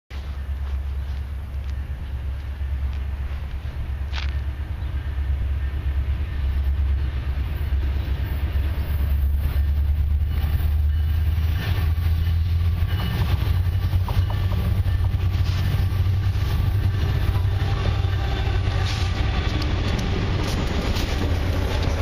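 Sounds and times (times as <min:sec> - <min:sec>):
diesel locomotive engine rumble: 0:00.1 - 0:22.0.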